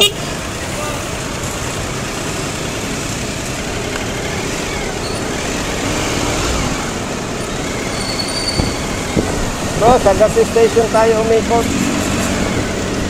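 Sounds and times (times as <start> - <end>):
motorcycle engine and road noise: 0.0 - 13.0.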